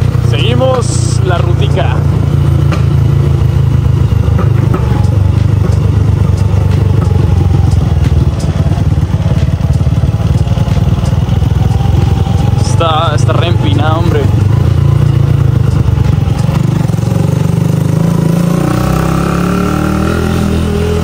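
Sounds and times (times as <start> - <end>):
motorcycle engine lugging: 0.0 - 19.0.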